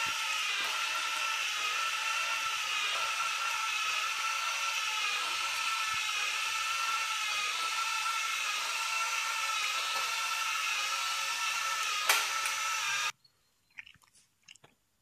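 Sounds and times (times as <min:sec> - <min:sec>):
robot vacuum motors whirring: 0:00.0 - 0:13.1.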